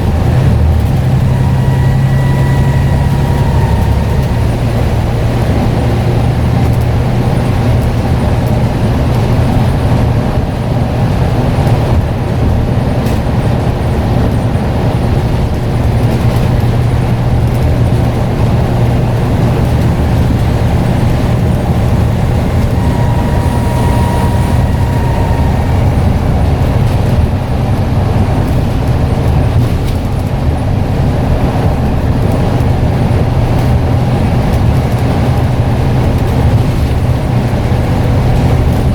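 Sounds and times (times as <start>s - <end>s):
bus diesel engine running: 0.0s - 38.9s
road noise: 0.0s - 38.9s.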